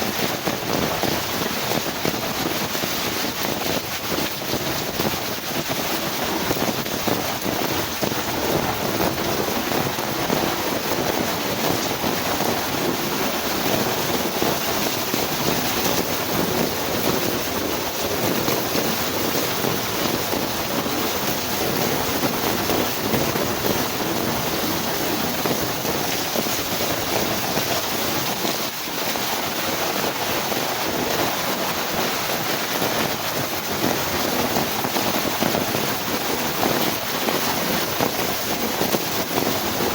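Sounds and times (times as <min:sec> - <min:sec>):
heavy rain pouring: 0:00.0 - 0:39.9
strong wind: 0:00.0 - 0:39.9.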